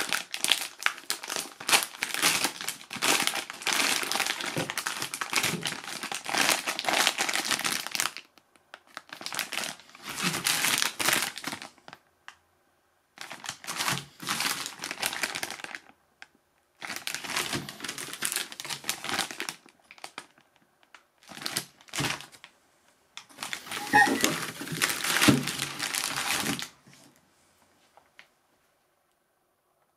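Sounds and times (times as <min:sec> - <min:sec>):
plastic bags crinkling: 0:00.0 - 0:12.0, 0:13.2 - 0:16.0, 0:16.8 - 0:22.5, 0:23.2 - 0:26.9.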